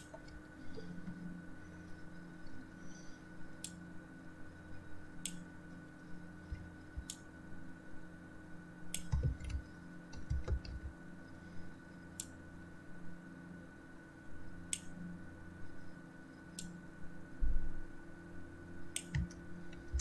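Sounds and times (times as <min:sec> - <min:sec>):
electrical hum with faint tone: 0:00.0 - 0:20.0.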